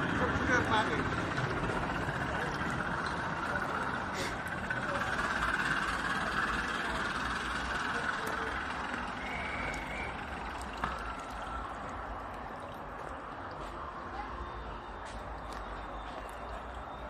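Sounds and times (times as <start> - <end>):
fountain splashing: 0.0 - 17.0.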